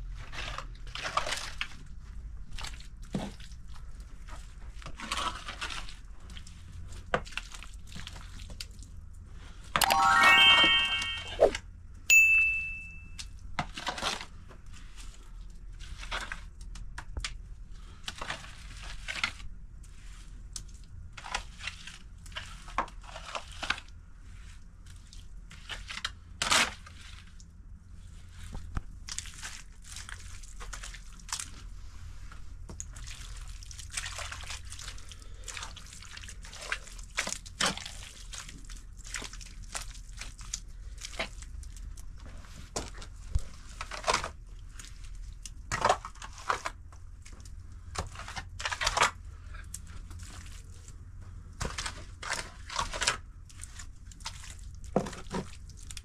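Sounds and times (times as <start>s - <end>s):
wet plaster sloshing and scraping: 0.1s - 8.8s, 17.8s - 27.4s, 28.0s - 56.0s.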